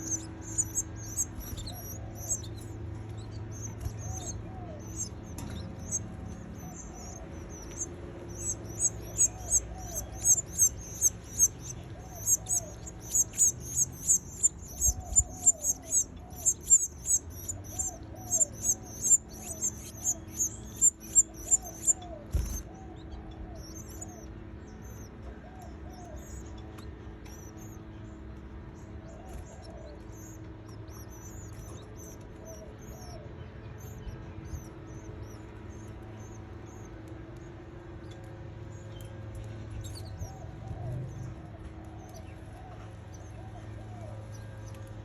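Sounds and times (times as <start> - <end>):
canary chicks cheeping: 0.0 - 45.0
steady low hum: 0.0 - 45.0.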